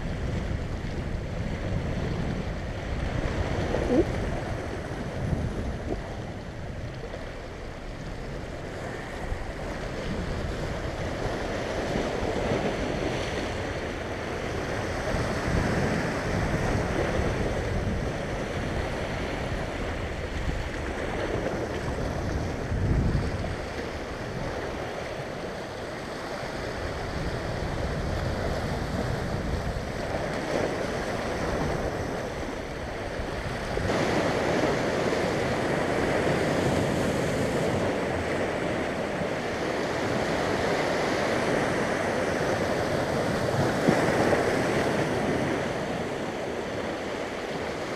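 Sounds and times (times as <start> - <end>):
waves breaking on rocky shore: 0.0 - 47.9.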